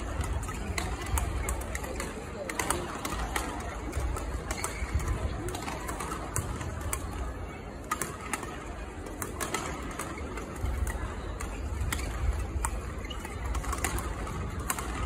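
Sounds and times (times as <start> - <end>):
rackets hitting shuttlecocks: 0.0 - 15.0.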